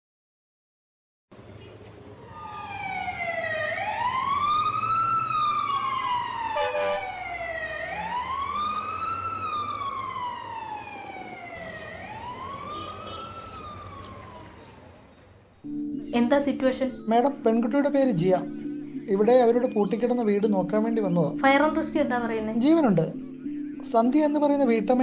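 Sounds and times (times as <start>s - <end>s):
emergency vehicle siren wailing: 2.0s - 23.8s.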